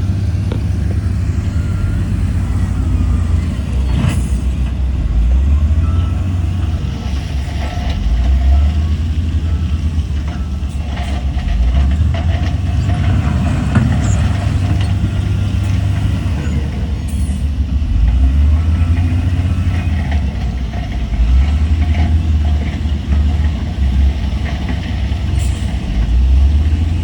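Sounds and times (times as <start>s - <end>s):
bulldozer diesel engine rumbling: 0.0s - 27.0s.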